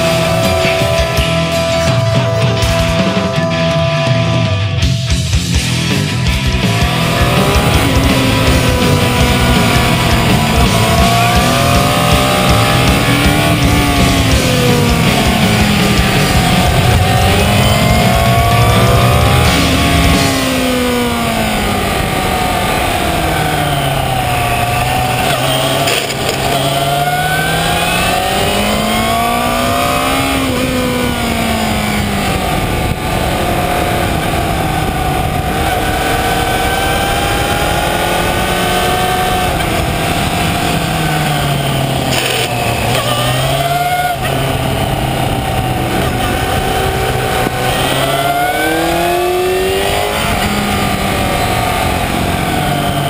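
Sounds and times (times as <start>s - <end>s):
motorcycle engine revving: 0.0s - 53.0s
wind rushing over microphone: 6.8s - 53.0s.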